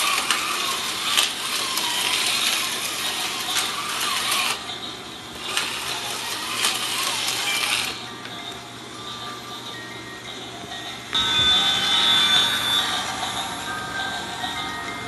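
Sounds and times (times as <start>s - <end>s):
toy motors whirring on plastic track: 0.0s - 15.0s.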